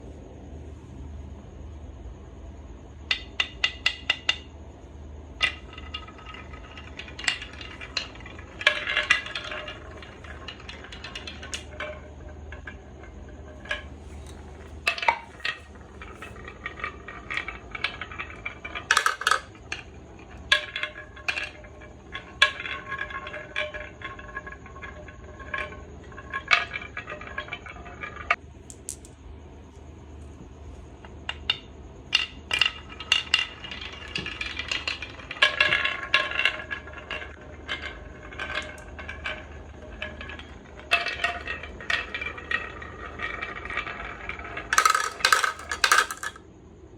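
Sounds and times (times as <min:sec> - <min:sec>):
marbles clicking: 0:05.4 - 0:29.2, 0:31.4 - 0:46.4
marbles rolling rattle: 0:05.4 - 0:29.2, 0:31.4 - 0:46.4.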